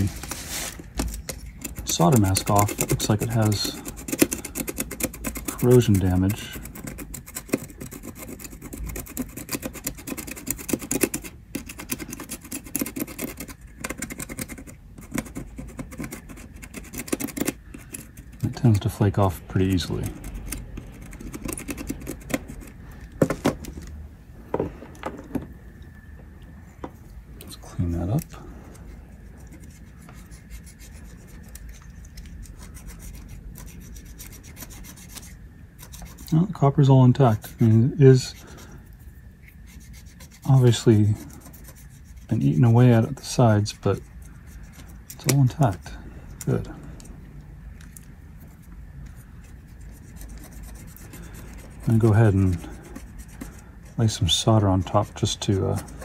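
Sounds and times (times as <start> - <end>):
side cutters scraping circuit board: 0.0 - 23.6, 29.3 - 38.8, 39.4 - 46.7, 47.9 - 56.0.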